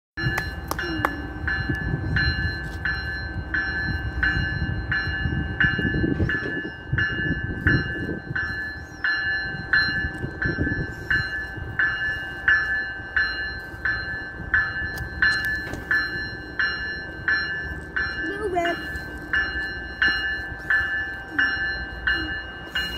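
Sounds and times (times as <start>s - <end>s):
low train rumble: 0.2s - 22.9s
train warning bell ringing: 0.2s - 22.9s.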